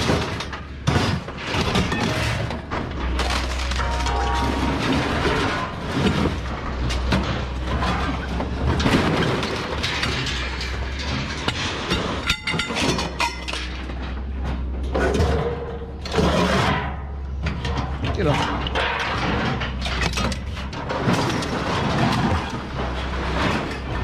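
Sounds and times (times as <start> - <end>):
scrap metal clattering and clanking: 0.0 - 24.0.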